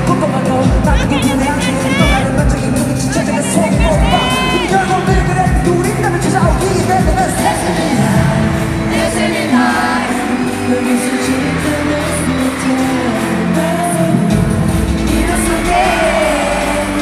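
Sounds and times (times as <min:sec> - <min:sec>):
live band backing music: 0:00.0 - 0:17.0
man singing into microphone: 0:00.0 - 0:17.0.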